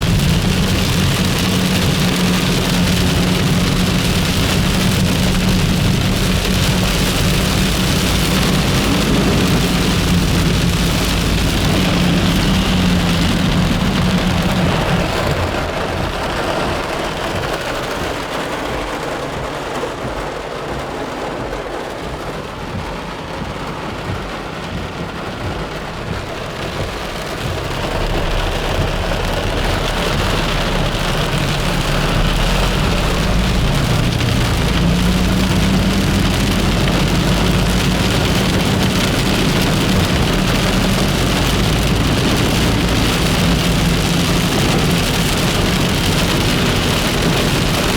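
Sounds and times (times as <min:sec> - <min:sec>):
heavy rain pouring: 0:00.0 - 0:47.9
low rumble: 0:00.0 - 0:47.9.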